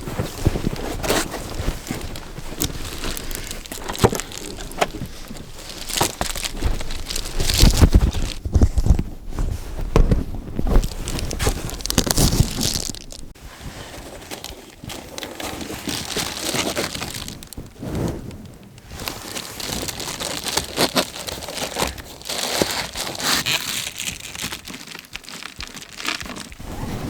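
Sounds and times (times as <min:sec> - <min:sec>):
foil insulation crinkling: 0:00.0 - 0:26.8.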